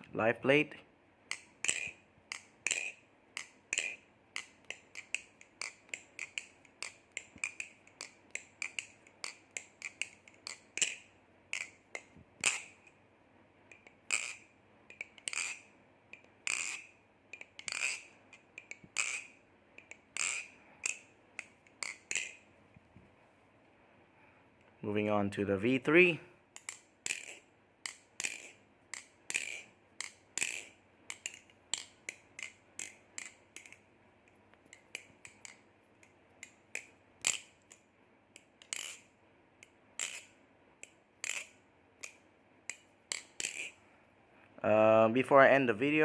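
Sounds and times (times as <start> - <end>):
balisong knife clicking: 1.3 - 13.0, 13.7 - 22.4, 26.6 - 43.8.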